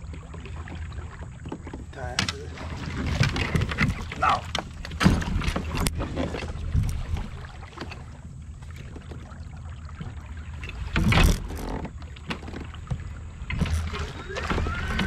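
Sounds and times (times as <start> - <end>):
water noise: 0.0 - 15.0.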